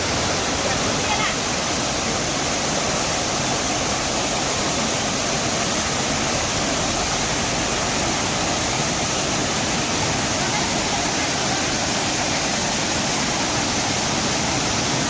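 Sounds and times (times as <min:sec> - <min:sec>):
large waterfall rushing: 0:00.0 - 0:15.0.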